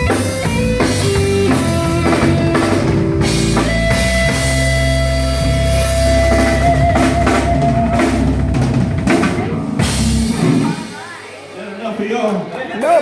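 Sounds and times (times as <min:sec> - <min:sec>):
drum kit kick and snare: 0:00.0 - 0:11.0
bass line: 0:00.0 - 0:11.4.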